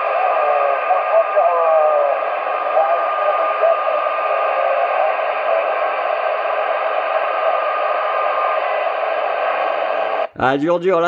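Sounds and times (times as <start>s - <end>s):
faint radio voice: 0.0s - 10.3s
radio static hiss: 0.0s - 10.3s.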